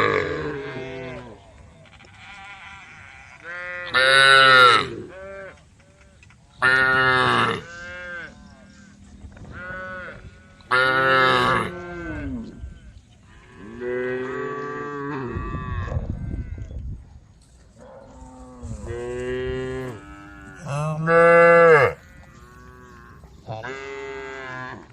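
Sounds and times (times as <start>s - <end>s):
cows mooing: 0.0s - 1.4s, 2.0s - 5.6s, 6.6s - 8.9s, 9.5s - 16.7s, 17.8s - 24.9s.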